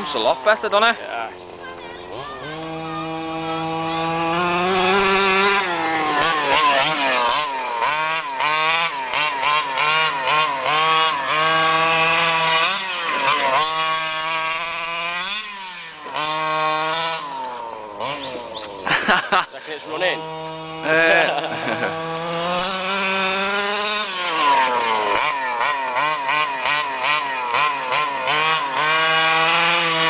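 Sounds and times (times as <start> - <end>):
two-stroke engine revving: 0.0 - 30.0.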